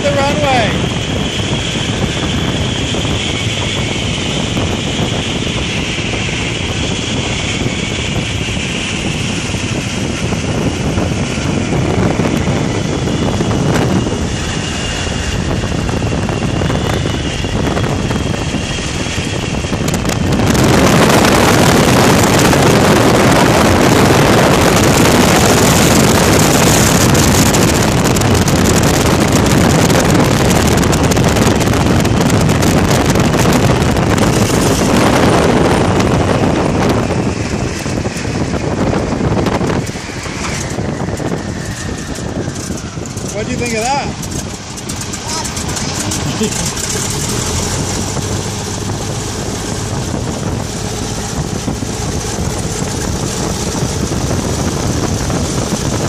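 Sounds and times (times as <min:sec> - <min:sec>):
biplane radial engine running: 0:00.0 - 0:56.0
wind rush on microphone: 0:00.0 - 0:56.0.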